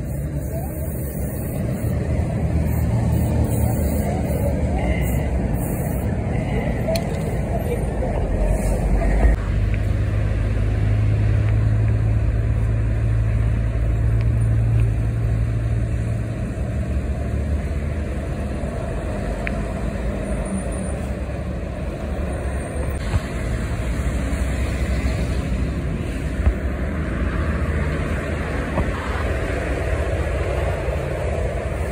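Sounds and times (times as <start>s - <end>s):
street noise: 0.0s - 31.9s
vehicle engine humming: 0.0s - 31.9s.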